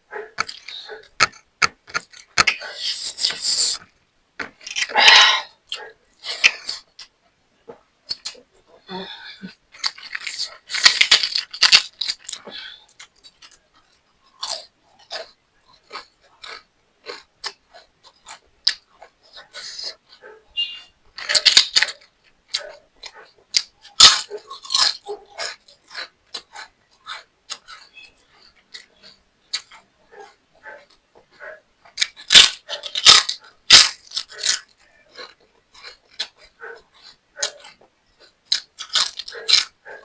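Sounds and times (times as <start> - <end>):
chewing and crunching food: 0.0 - 40.0.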